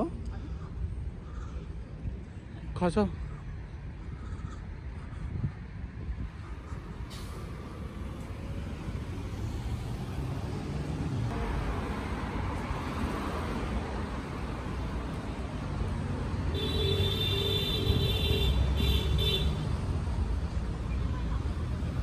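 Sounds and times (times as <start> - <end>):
cars driving past: 0.3 - 22.0.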